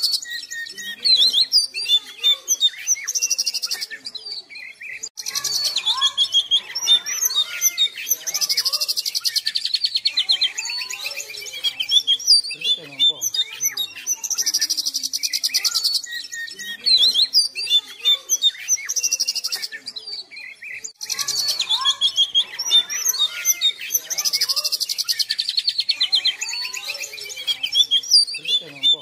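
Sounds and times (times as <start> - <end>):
bird singing whistled notes: 0.0 - 29.0.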